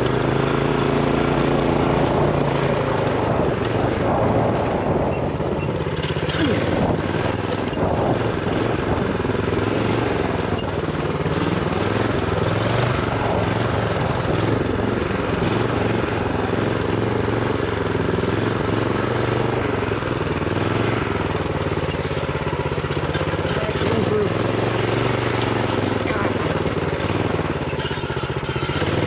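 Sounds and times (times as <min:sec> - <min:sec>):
minibike engine running: 0:00.0 - 0:29.0.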